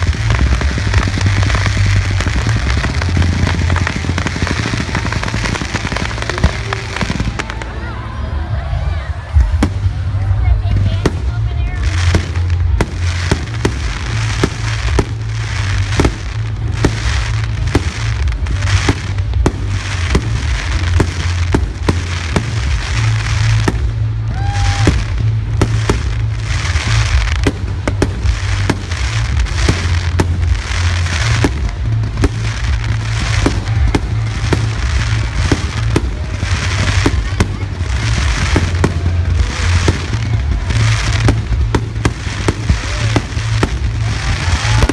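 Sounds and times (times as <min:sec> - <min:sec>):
fireworks crackle: 0:00.0 - 0:44.9
low booming rumble: 0:00.0 - 0:44.9.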